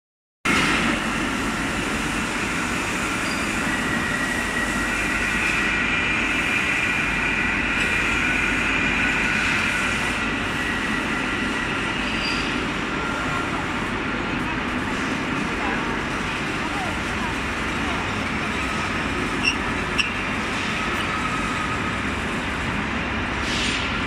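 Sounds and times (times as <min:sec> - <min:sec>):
machinery running: 0:00.5 - 0:24.0.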